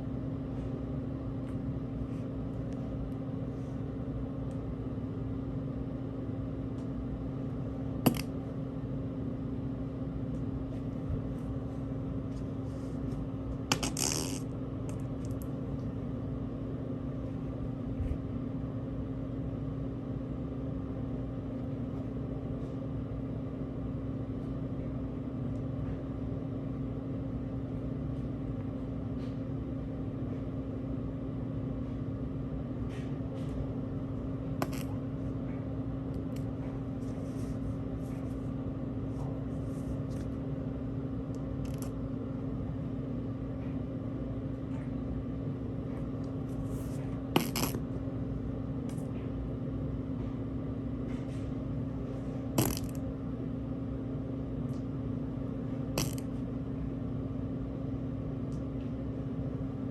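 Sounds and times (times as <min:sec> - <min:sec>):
low motor-like hum: 0:00.0 - 0:59.9.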